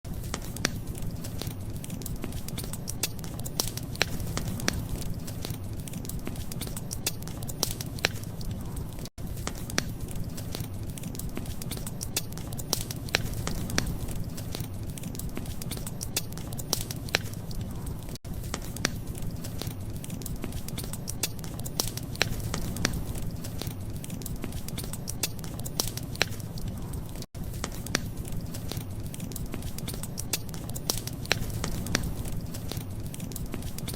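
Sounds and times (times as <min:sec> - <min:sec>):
wood fire crackling: 0:00.0 - 0:33.9
low fire rumble: 0:00.1 - 0:33.9
sharp fire pops and snaps: 0:00.1 - 0:33.9.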